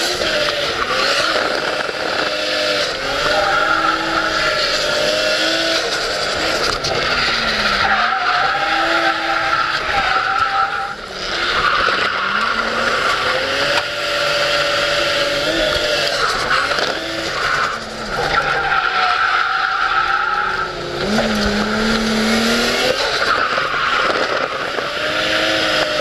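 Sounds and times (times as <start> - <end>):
car engine revving hard: 0.0 - 19.0, 19.8 - 26.0.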